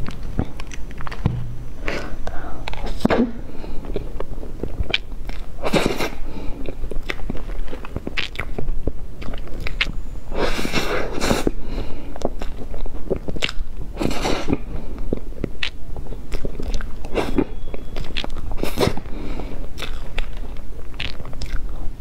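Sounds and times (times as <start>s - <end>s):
breathy mouth sounds: 1.8s - 22.0s
lip smacks and chewing: 2.2s - 22.0s.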